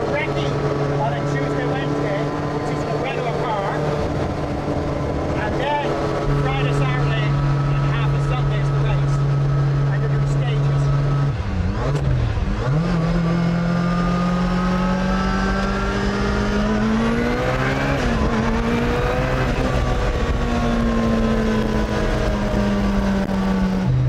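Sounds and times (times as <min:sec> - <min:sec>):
rally car engine running: 0:00.0 - 0:24.0.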